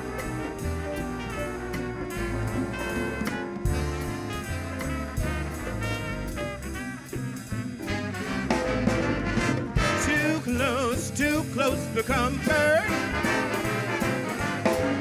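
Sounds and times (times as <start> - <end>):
trumpets and trombones: 0.0 - 15.0
walking bass notes: 0.0 - 15.0.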